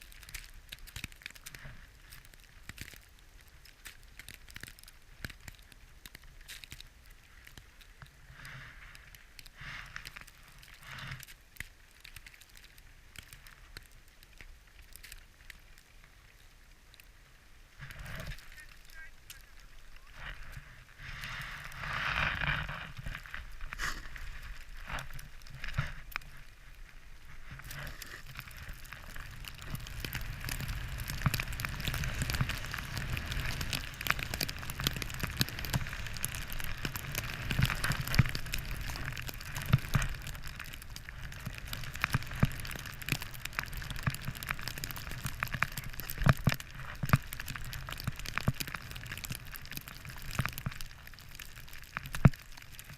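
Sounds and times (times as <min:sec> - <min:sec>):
skis sliding over snow: 0:00.0 - 0:52.9.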